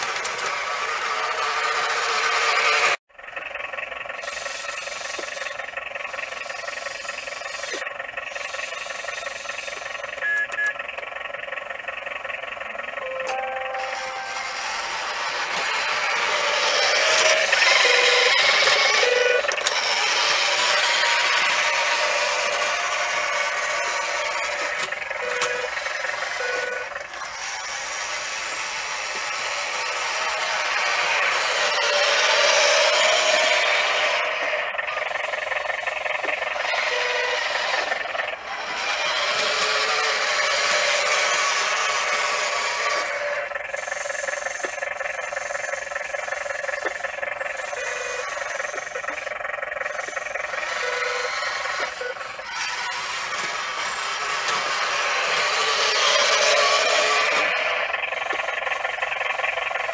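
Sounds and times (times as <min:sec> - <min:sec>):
toy truck motor whining: 0:00.0 - 0:03.0, 0:03.9 - 0:59.9.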